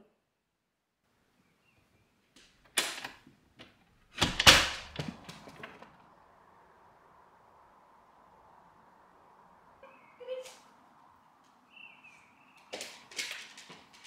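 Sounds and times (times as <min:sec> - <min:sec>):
faint steady noise: 0:00.0 - 0:14.0.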